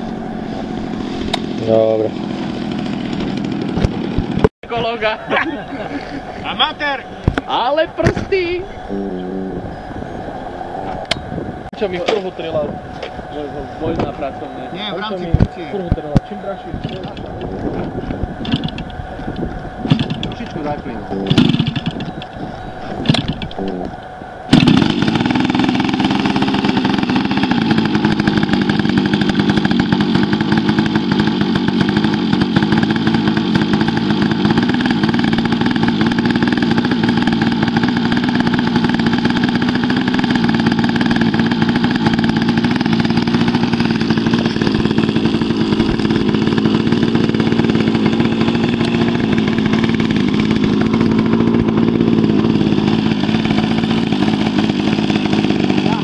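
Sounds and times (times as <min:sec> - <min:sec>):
model airplane engine running: 0:00.0 - 0:56.0.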